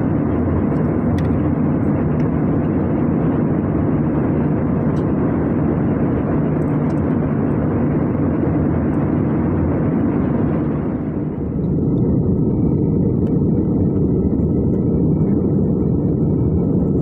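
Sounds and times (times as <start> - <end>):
airliner cabin engine noise: 0.0 - 17.0.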